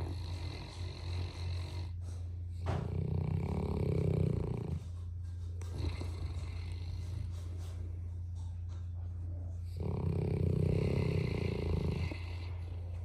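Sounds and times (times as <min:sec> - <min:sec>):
dog snoring: 0:00.0 - 0:13.0
steady low hum: 0:00.0 - 0:13.0.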